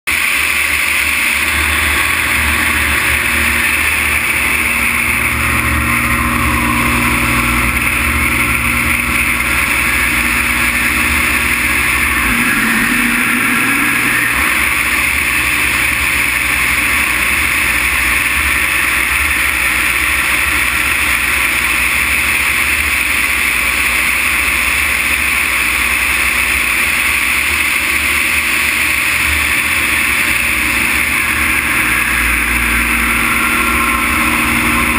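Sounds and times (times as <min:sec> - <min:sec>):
aircraft engine and propeller drone: 0:00.1 - 0:34.9.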